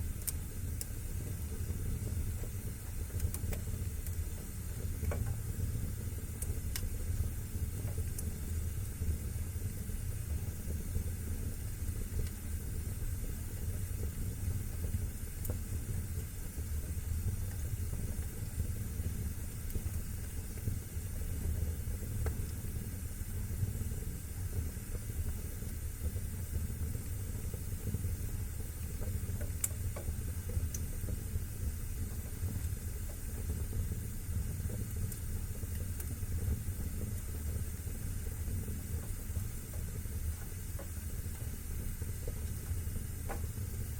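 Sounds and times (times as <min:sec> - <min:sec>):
fire crackles: 0:00.0 - 0:43.9
fire flames rumbling: 0:00.0 - 0:43.9.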